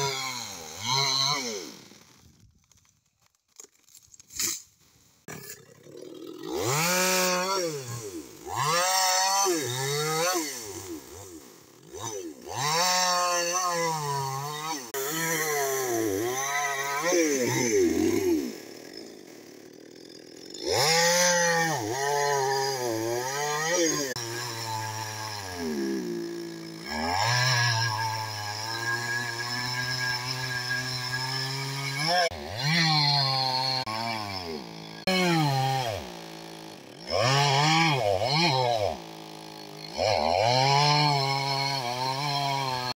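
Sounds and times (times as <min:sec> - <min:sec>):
chainsaw cutting log: 0:00.0 - 0:43.0.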